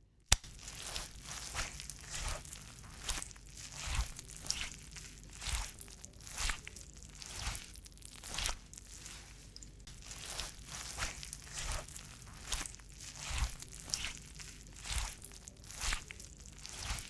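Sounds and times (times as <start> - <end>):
mop swishing across floor: 0.4 - 17.0.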